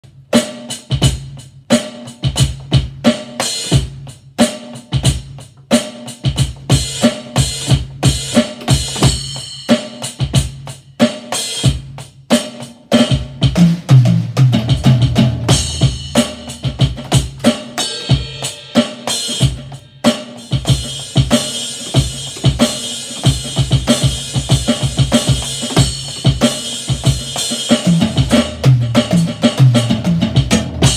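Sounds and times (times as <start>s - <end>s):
electronic drum kit beat: 0.0s - 30.9s.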